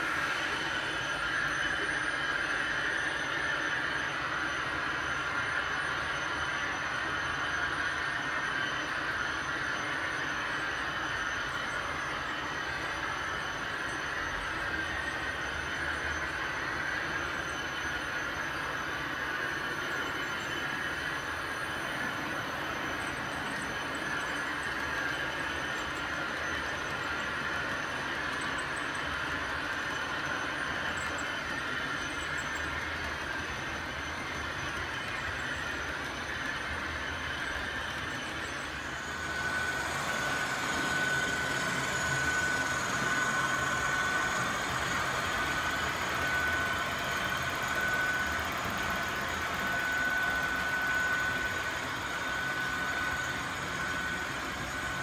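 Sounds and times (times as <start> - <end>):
model trains whirring on track: 0.0 - 55.0
steady high whine: 0.0 - 55.0.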